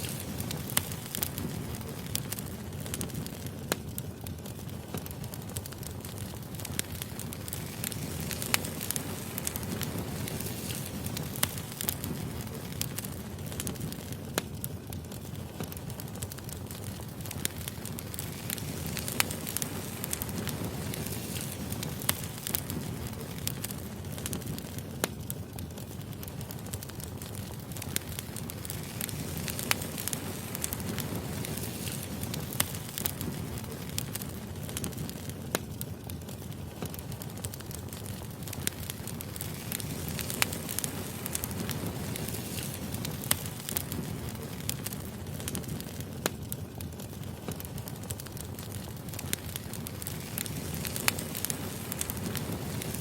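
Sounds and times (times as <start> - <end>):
fire crackling and popping: 0.0 - 53.0
low rumble of flames: 0.0 - 53.0.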